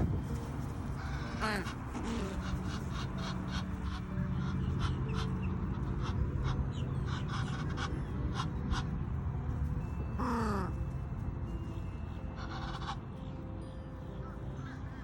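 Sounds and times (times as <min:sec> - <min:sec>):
flock of birds calling: 0:00.0 - 0:09.1, 0:11.6 - 0:15.0.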